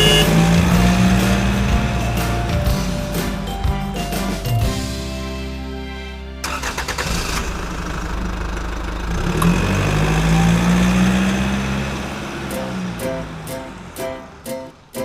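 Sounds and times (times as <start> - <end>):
vehicle engine starting and running: 0.0 - 5.0, 6.4 - 14.9.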